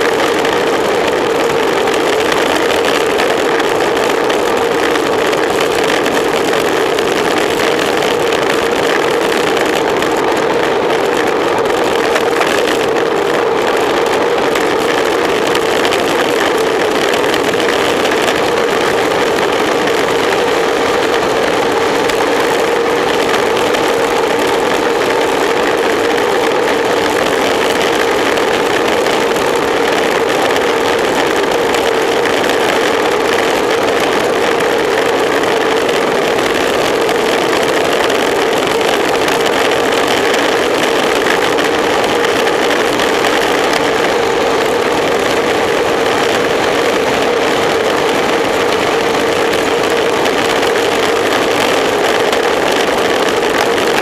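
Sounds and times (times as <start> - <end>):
constant droning tone: 0.0 - 54.0
wind rushing over microphone: 0.0 - 54.0.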